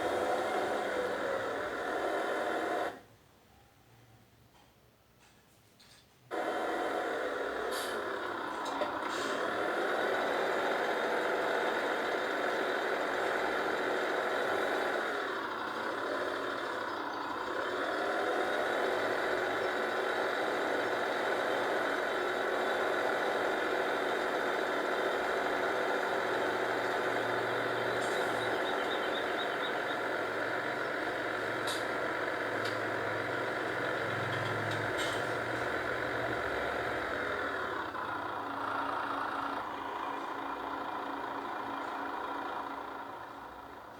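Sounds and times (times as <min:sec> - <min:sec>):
large engine running: 0:00.0 - 0:03.1, 0:06.3 - 0:43.9.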